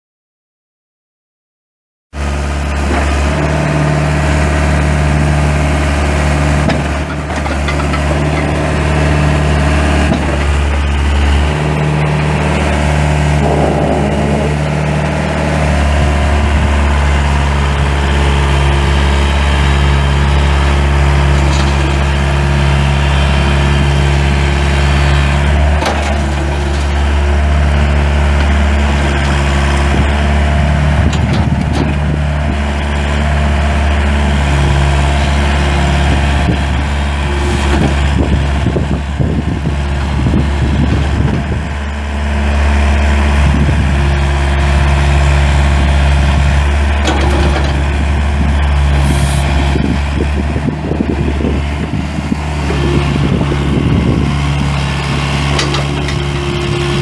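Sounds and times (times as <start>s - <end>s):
diesel excavator engine running: 2.2s - 57.0s.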